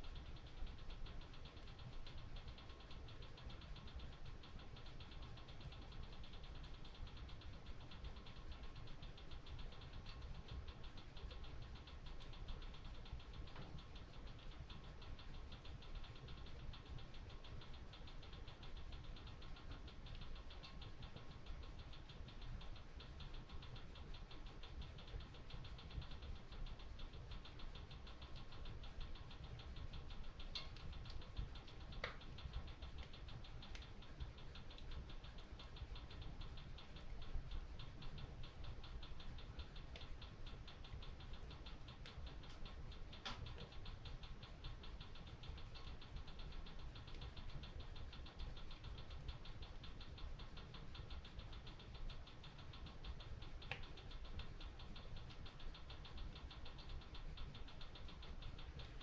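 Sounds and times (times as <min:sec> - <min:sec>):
low steady rumble: 0:00.0 - 0:59.0
wood fire crackling: 0:00.1 - 0:59.0.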